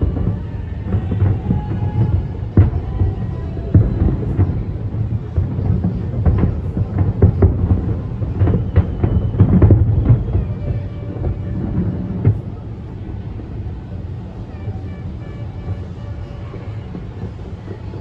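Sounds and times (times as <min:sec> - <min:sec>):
deep rumbling booms: 0:00.0 - 0:14.9
fireworks bangs and crackles: 0:00.0 - 0:18.0.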